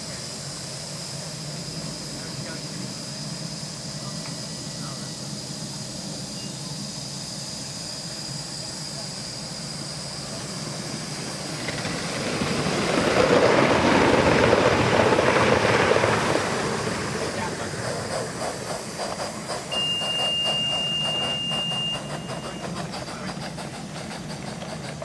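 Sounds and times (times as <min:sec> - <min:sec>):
model train running: 0:00.0 - 0:25.0.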